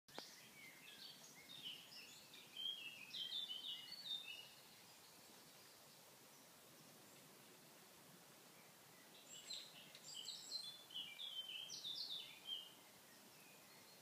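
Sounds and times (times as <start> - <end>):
faint steady hiss: 0.1 - 14.0
songbird singing: 0.1 - 14.0.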